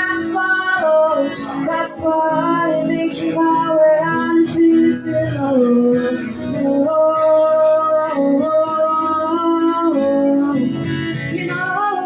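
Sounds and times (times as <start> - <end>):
guitar accompaniment: 0.0 - 12.0
woman singing: 0.0 - 12.0.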